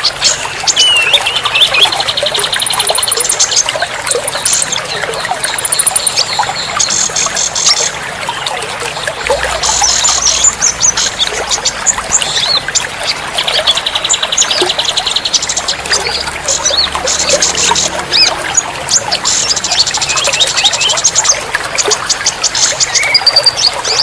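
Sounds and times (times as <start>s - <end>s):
songbirds chirping and trilling: 0.0s - 24.0s
trickling water: 0.0s - 24.0s.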